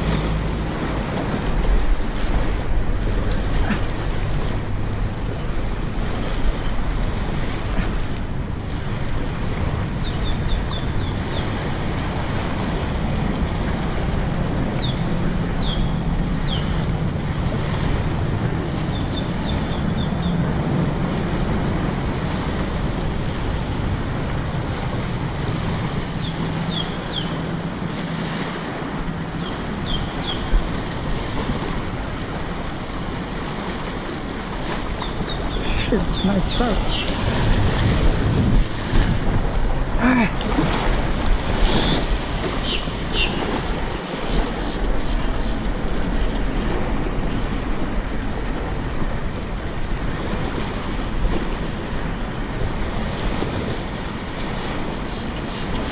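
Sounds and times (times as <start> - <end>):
small waves washing on sand: 0.0 - 55.9
wind buffeting microphone: 0.0 - 55.9.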